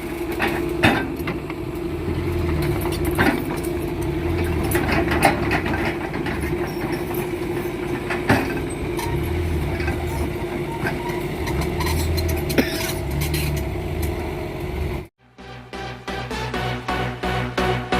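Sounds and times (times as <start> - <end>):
excavator diesel engine running: 0.0 - 17.9.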